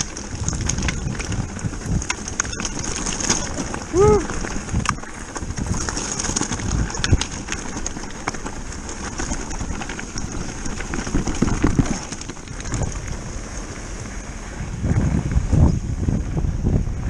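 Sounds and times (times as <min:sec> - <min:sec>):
tyres crunching over stones: 0:00.0 - 0:14.5
bike clicks and rattles: 0:00.0 - 0:14.6.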